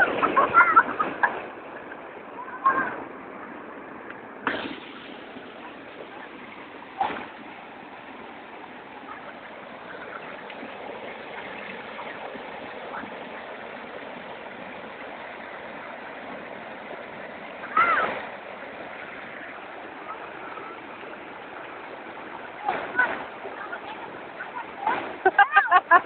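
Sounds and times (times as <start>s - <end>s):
waterfall rushing: 0.0s - 25.3s.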